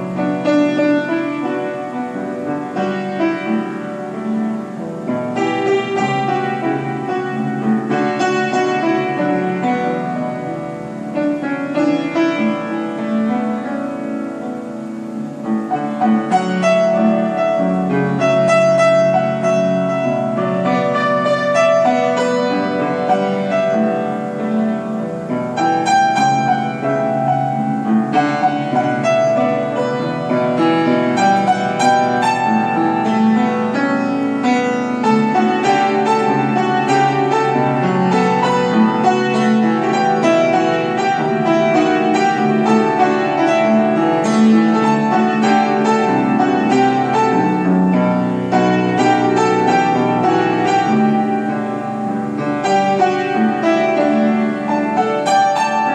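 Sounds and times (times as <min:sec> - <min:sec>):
piano piece: 0:00.0 - 0:55.9.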